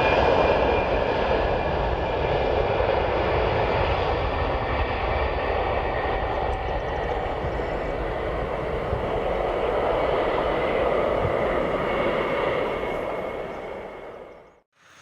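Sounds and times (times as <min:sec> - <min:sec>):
jet engines rushing and whining: 0:00.0 - 0:14.7.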